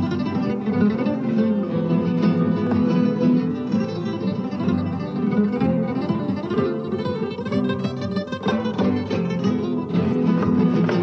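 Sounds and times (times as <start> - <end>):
flamenco guitar playing: 0.0 - 11.0.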